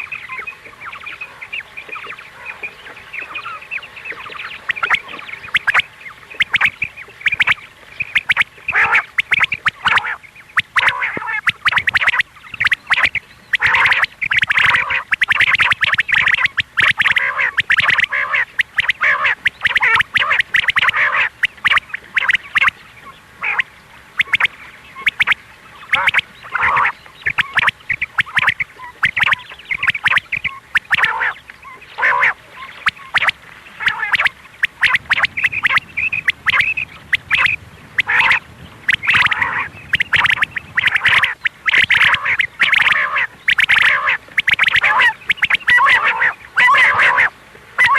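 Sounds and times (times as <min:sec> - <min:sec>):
quail calling: 0:00.0 - 0:47.9.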